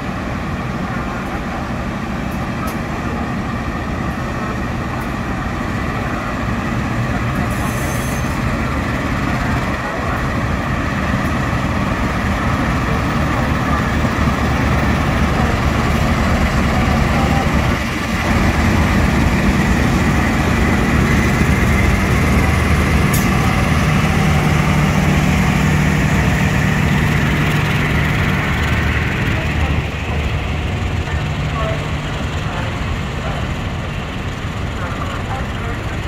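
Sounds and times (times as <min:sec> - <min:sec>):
locomotive engine running: 0:00.0 - 0:36.0
train coaches rolling by: 0:00.0 - 0:36.0.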